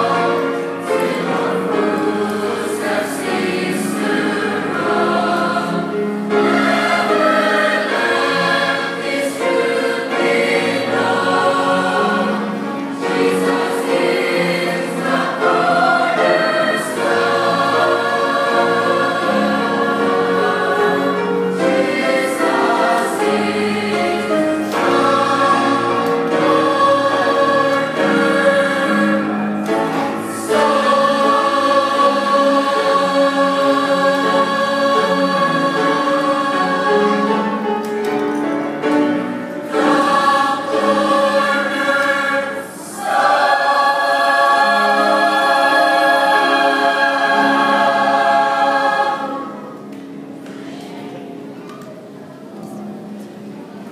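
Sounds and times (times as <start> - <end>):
mixed choir singing: 0.0 - 51.6.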